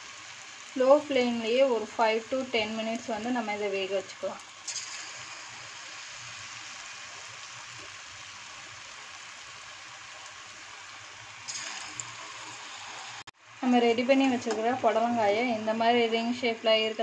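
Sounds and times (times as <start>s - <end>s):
food deep-frying in hot oil: 0.0s - 17.0s.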